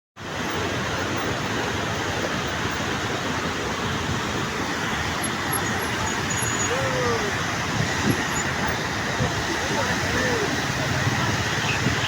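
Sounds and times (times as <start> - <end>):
river water rushing: 0.2 - 12.0.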